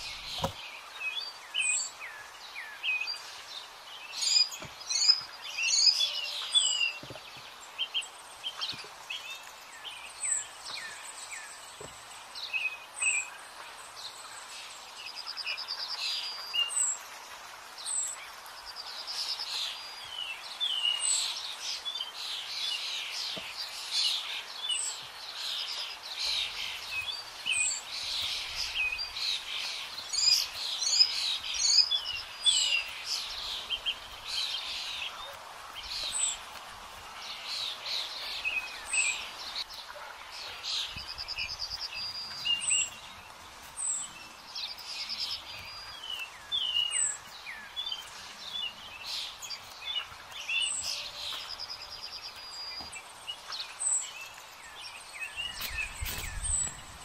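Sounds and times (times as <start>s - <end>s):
wild birds singing: 0.0s - 57.0s.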